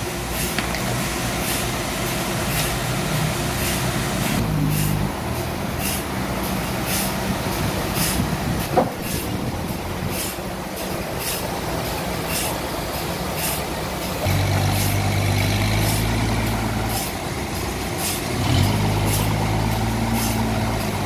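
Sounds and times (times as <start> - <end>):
forklift diesel engine running: 0.0 - 21.0.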